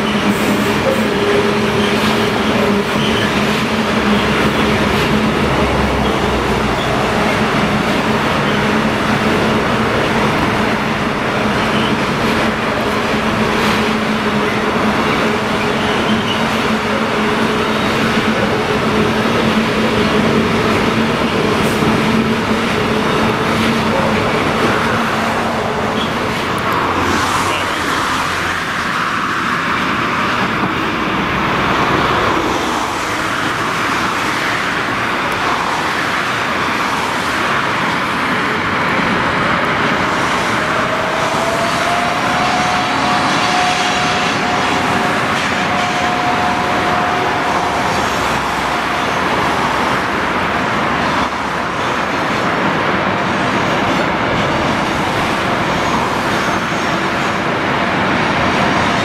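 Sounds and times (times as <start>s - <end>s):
low train hum with higher tone: 0.0s - 59.0s
train wagons rumbling by: 0.0s - 59.0s.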